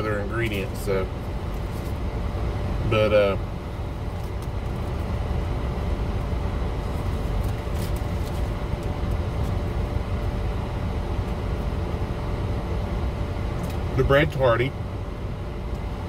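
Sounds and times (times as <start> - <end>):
car cabin engine rumble: 0.0 - 16.0.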